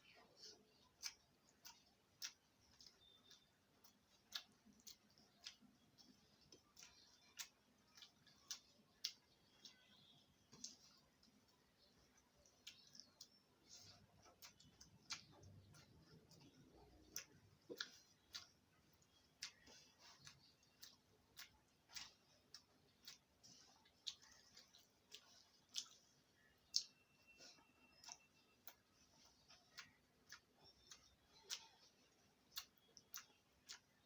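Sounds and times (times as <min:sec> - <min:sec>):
chewing clicks: 0:00.0 - 0:34.0.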